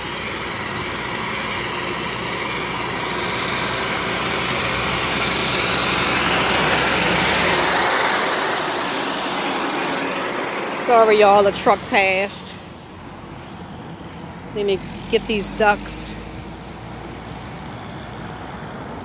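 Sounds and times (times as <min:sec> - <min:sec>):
truck passing by: 0:00.0 - 0:19.0.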